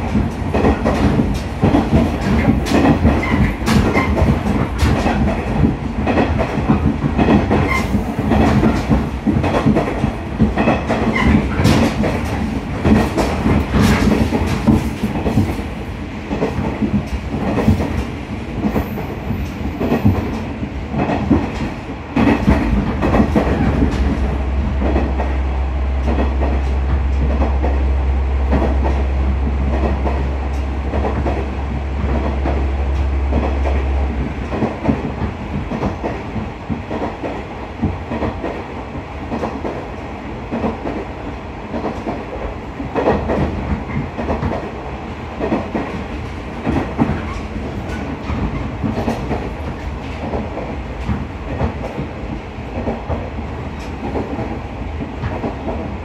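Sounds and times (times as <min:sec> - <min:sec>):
train wheels clicking over rail joints: 0:00.0 - 0:25.4, 0:26.0 - 0:27.9, 0:28.5 - 0:56.0
train car rumbling: 0:00.0 - 0:56.0.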